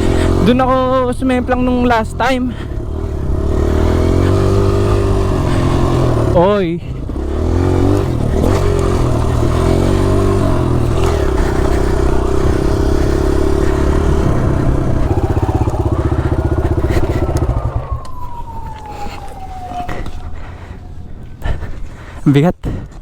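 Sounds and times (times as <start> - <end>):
motocross bike engine revving: 0.0 - 21.8.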